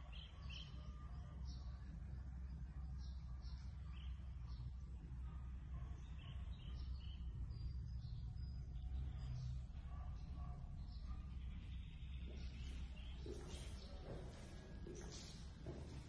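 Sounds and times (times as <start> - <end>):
faint bird chirps: 0.0 - 15.4.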